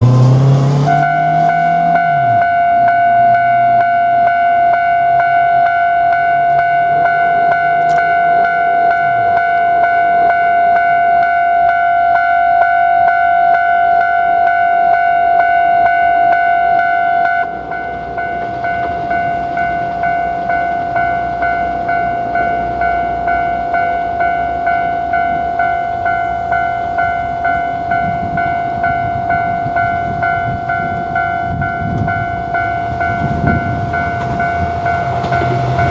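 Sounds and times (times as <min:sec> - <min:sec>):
approaching train rumble: 0:00.0 - 0:12.6, 0:13.9 - 0:35.9
level-crossing alarm bell: 0:00.4 - 0:35.9.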